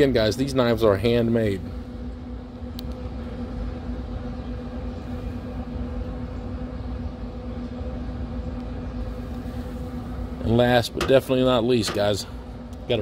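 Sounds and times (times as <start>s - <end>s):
smoker fan humming: 0.0s - 13.0s.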